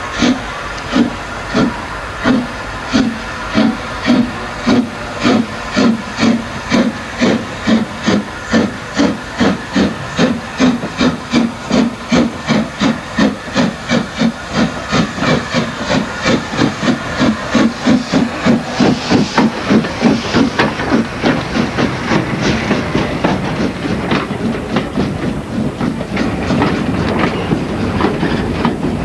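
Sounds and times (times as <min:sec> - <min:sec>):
steam hissing: 0:00.0 - 0:29.0
steam locomotive chuffing: 0:00.0 - 0:29.0.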